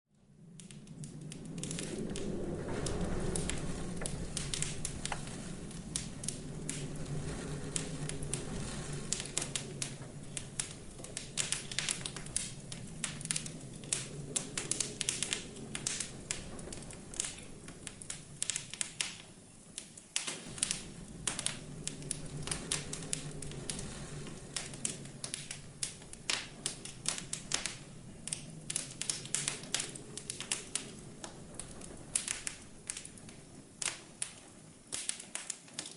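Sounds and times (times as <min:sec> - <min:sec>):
low wind: 0:00.1 - 0:35.9
wood fire crackling: 0:00.1 - 0:35.9.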